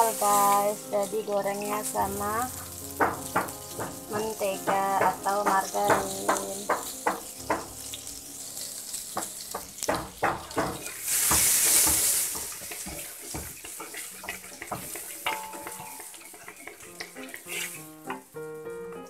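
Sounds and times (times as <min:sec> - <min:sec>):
wooden spatula scraping a pan: 0:00.0 - 0:07.0, 0:08.8 - 0:18.3
margarine sizzling in a wok: 0:00.0 - 0:19.0.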